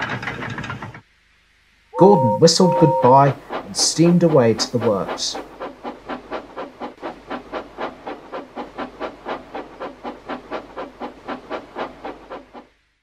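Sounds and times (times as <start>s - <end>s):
steam locomotive chuffing: 2.0s - 12.9s.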